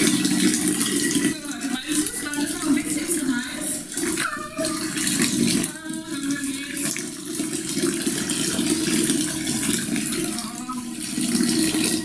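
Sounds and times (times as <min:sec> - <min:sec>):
tap water pouring into basin: 0:00.0 - 0:12.0.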